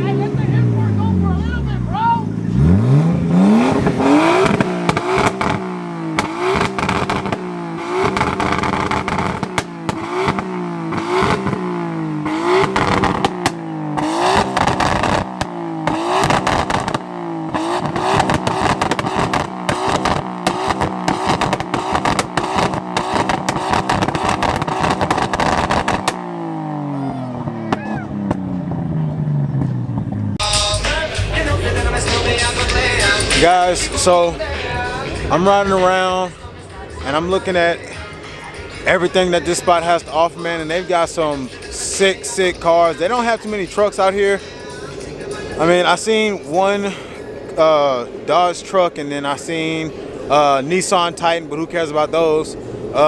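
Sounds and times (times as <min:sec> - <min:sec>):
car engine revving hard: 0:00.0 - 0:48.3
exhaust crackles: 0:00.0 - 0:53.0.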